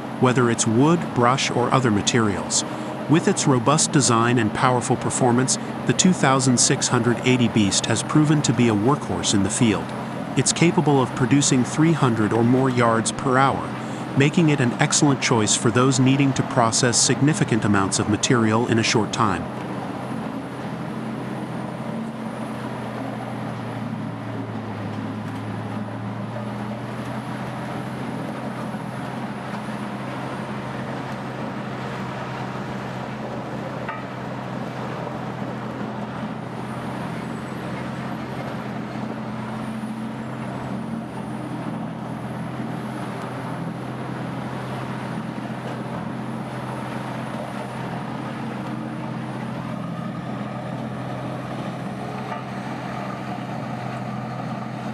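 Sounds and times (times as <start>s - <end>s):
grinder engine drone: 0.0s - 54.9s.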